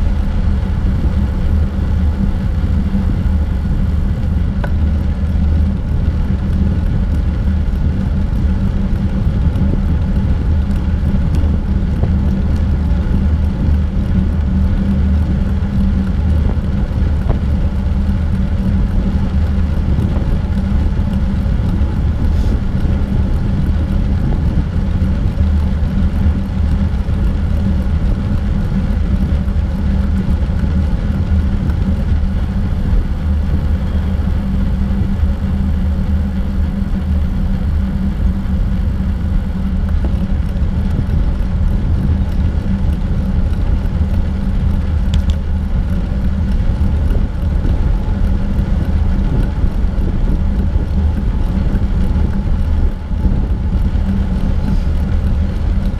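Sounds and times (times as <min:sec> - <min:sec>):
wind noise on microphone: 0:00.0 - 0:55.9.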